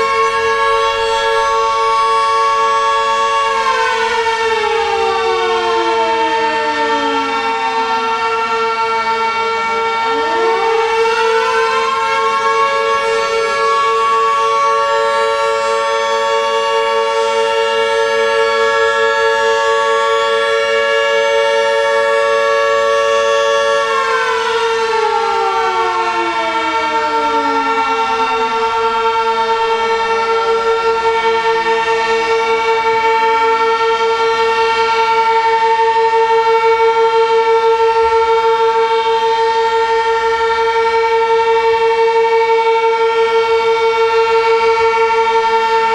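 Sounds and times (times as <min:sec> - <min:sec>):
warning siren steady tone: 0:00.0 - 0:45.9.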